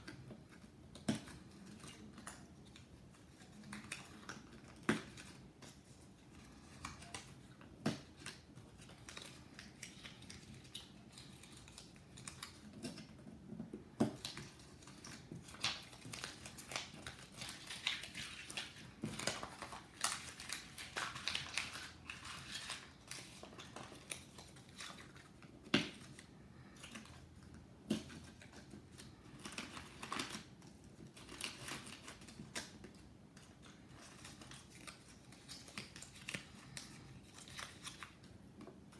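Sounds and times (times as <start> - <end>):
paper cards rustling: 0.0 - 38.9.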